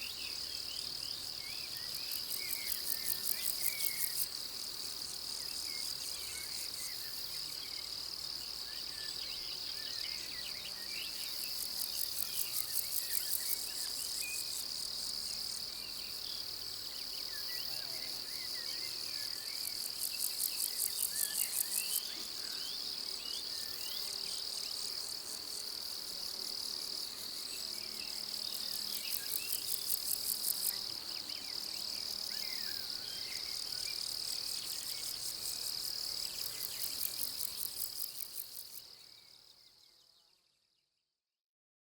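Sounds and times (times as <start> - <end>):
insects high-pitched trill: 0.0 - 39.6
insect rapid pulsing buzz: 0.0 - 39.9.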